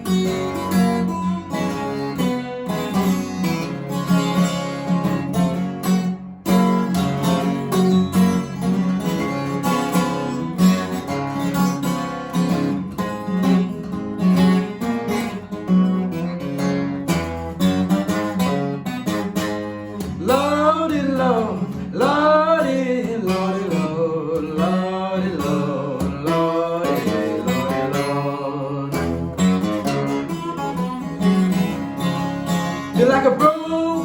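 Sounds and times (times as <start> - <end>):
acoustic guitar blues: 0.0 - 34.0.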